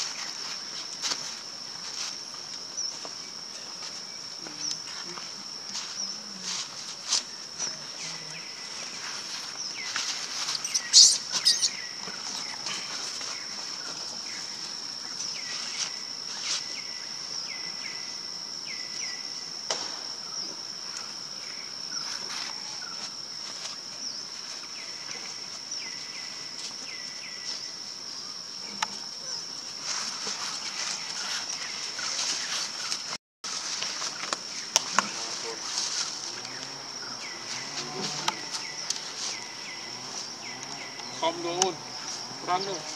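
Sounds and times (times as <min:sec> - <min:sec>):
high-pitched insect drone: 0:00.0 - 0:42.9.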